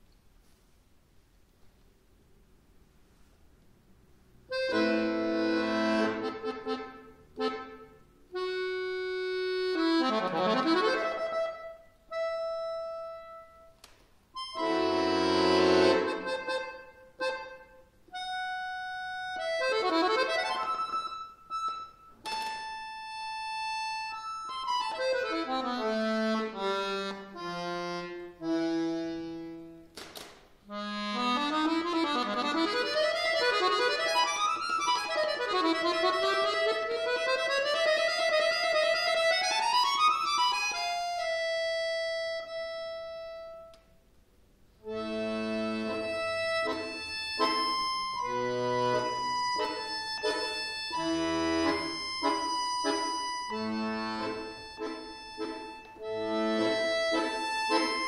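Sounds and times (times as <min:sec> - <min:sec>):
accordion playing classical music: 0:04.3 - 0:13.8, 0:14.4 - 0:29.9, 0:30.7 - 0:43.9, 0:44.7 - 0:58.0.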